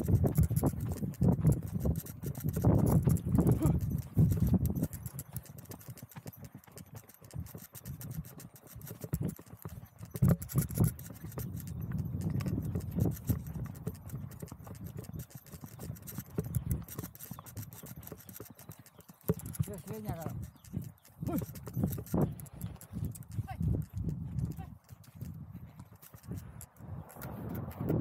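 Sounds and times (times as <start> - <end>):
horse hooves clip-clopping on dirt: 0.0 - 28.0.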